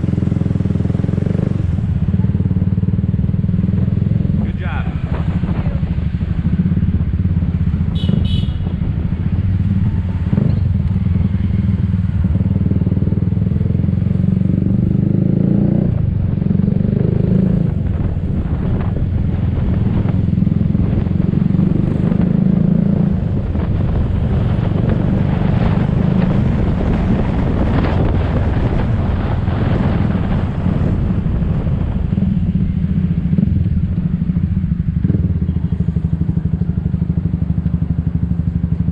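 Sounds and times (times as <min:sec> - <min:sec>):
traffic noise: 0:00.0 - 0:38.9
wind rumble on microphone: 0:00.0 - 0:38.9.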